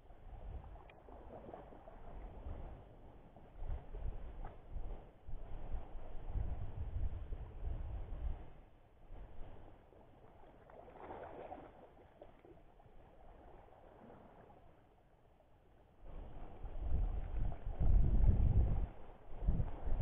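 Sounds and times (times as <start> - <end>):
wind rumbling on microphone: 0.0 - 12.3, 16.0 - 20.0
sea water lapping: 0.0 - 20.0.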